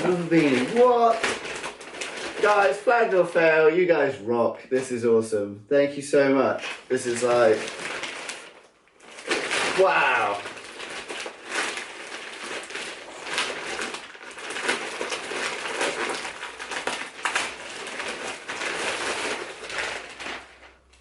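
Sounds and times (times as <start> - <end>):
plastic packaging crinkling: 0.0 - 4.1, 6.4 - 21.0.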